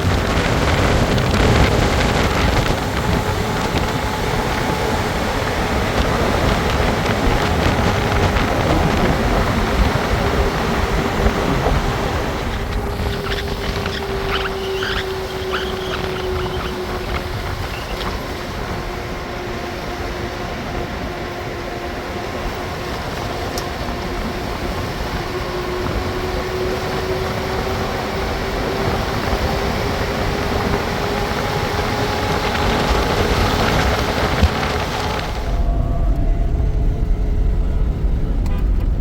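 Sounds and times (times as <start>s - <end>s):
constant rushing noise: 0.0s - 39.0s
vehicle engine droning: 0.0s - 39.0s.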